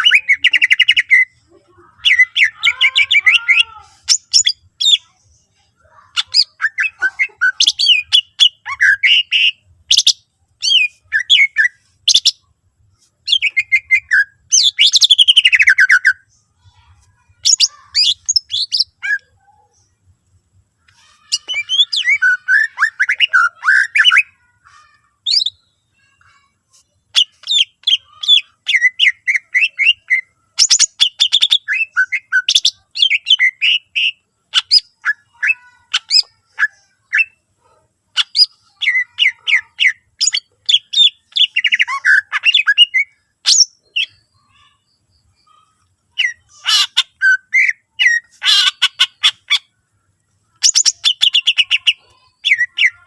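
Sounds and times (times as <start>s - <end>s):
bird chirping and trilling: 0.0s - 12.5s, 13.2s - 20.0s, 20.8s - 53.0s.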